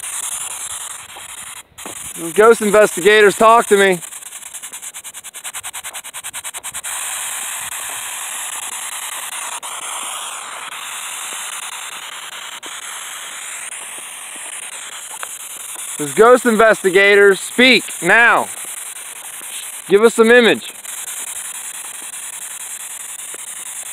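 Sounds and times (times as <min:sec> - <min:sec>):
electronic static hiss: 0:00.0 - 0:23.9.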